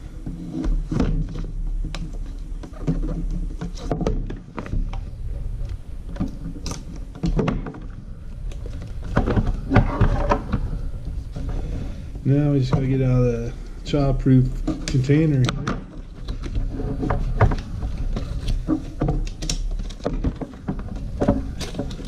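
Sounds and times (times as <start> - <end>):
hands handling packaging: 0.0 - 22.0
steady low hum: 0.0 - 22.0.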